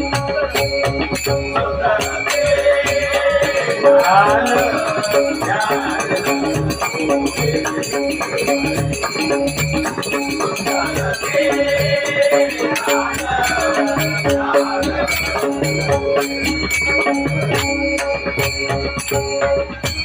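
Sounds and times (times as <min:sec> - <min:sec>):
hand cymbals jingling: 0:00.0 - 0:20.0
harmonium playing: 0:00.0 - 0:20.0
two-headed drum beating: 0:00.0 - 0:20.0.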